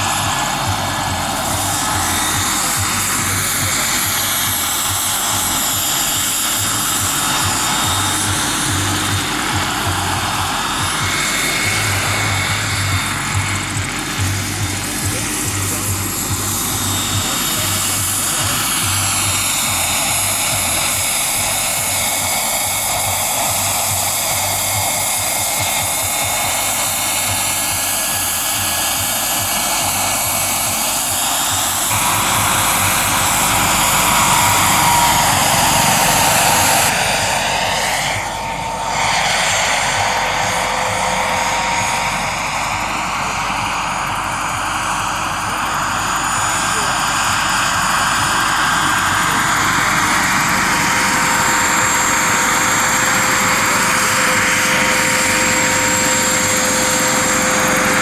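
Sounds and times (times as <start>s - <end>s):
model helicopter motor whine: 0.0s - 58.0s.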